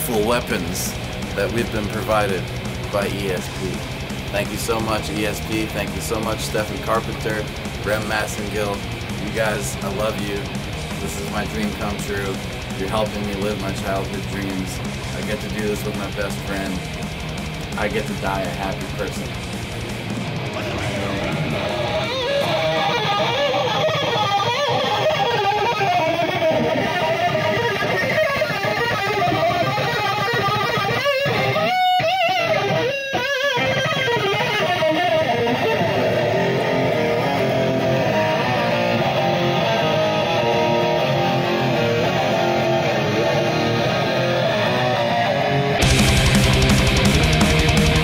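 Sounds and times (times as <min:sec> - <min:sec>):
electric guitar shred lead: 0:00.0 - 0:48.0.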